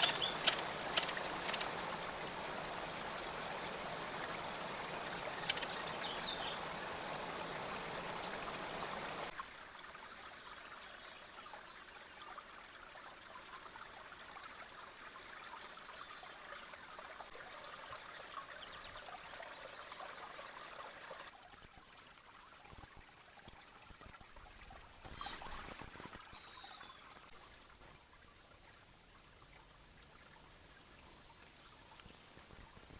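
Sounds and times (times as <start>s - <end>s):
creek water trickling: 0.0s - 32.9s.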